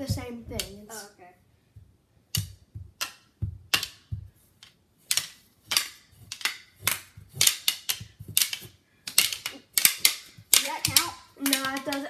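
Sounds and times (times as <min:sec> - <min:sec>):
plastic hockey sticks clacking: 0:00.0 - 0:01.0, 0:02.2 - 0:12.0.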